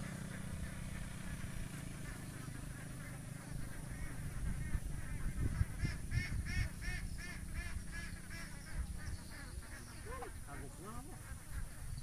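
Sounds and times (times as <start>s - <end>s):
bird calling in rapid notes: 0.0s - 12.0s.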